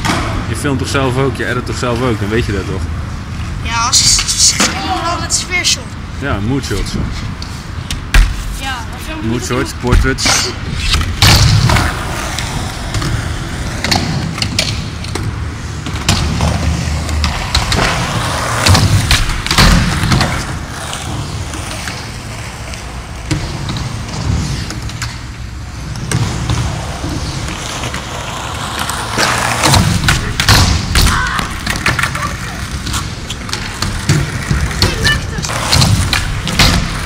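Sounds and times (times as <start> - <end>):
skateboard wheels rolling on concrete: 0.0 - 37.0.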